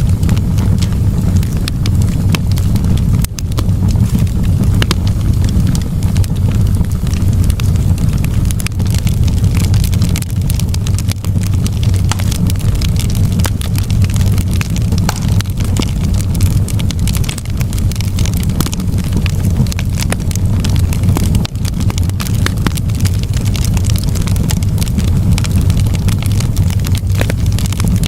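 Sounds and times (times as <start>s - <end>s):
burning wood crackling: 0.0s - 28.0s
fire roaring: 0.0s - 28.0s.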